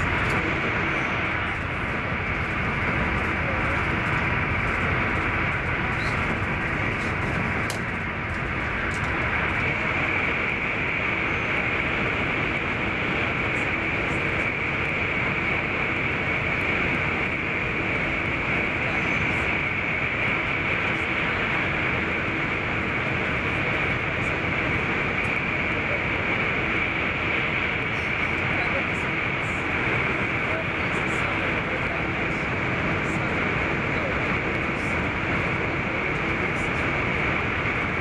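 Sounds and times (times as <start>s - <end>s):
steady high whine: 0.0s - 38.0s
train wheels rolling on rails: 0.0s - 38.0s.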